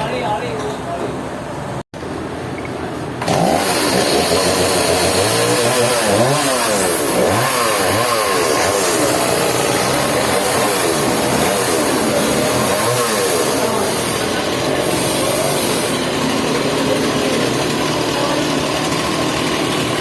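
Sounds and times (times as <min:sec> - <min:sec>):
engine revving: 0:03.2 - 0:20.0.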